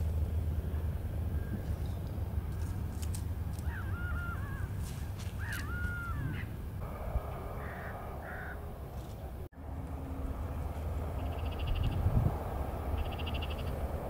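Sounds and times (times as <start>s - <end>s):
steady low rumble: 0.0s - 14.0s
bird calling: 1.3s - 9.4s, 10.5s - 14.0s.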